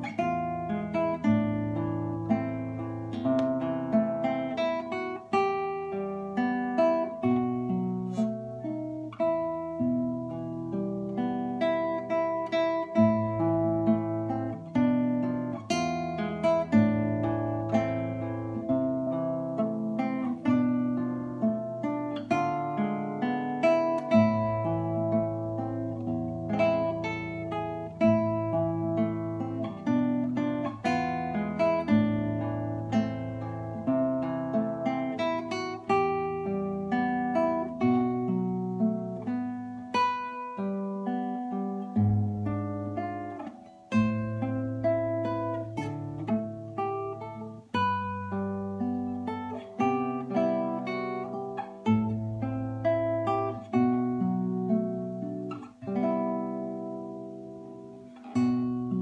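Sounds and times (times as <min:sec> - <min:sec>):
fingerpicked classical guitar: 0:00.0 - 0:59.0.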